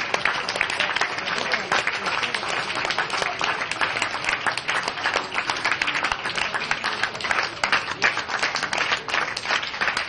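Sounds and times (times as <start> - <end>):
audience applauding: 0.0 - 10.0
person clapping close by: 0.0 - 10.0.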